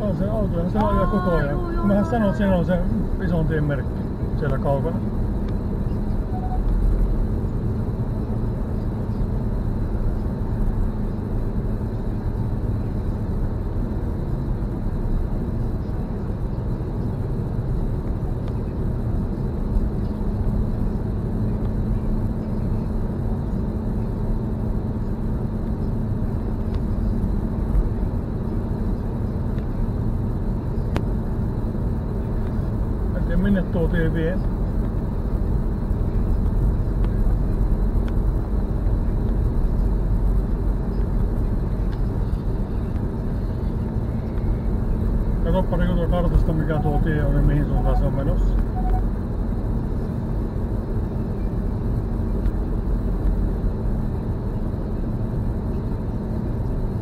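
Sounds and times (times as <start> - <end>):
engine and tyre rumble in car: 0.0 - 57.0
steady low hum: 0.0 - 57.0.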